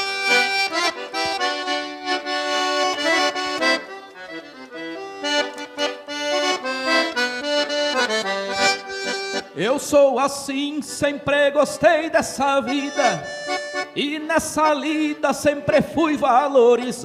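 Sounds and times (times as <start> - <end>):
accordion playing: 0.0 - 15.8.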